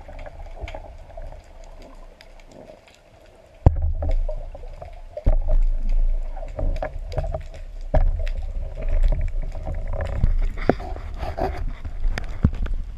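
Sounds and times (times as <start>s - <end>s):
underwater rumble of moving water: 0.0s - 12.9s.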